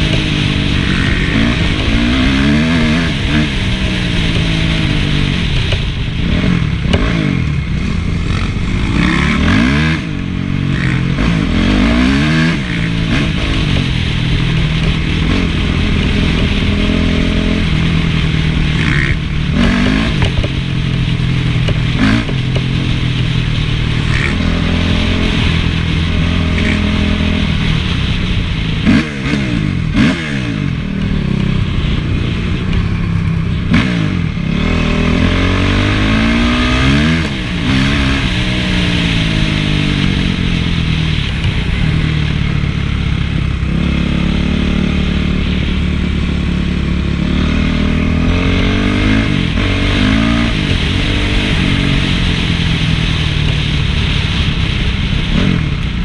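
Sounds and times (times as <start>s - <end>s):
motocross engine revving: 0.0s - 55.8s.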